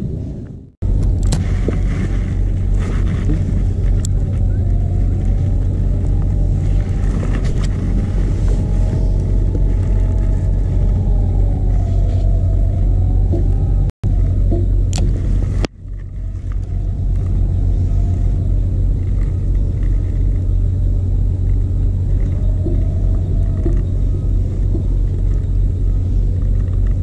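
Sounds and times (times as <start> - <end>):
faint wavering whine: 0.0 - 27.0
low engine drone: 0.0 - 27.0.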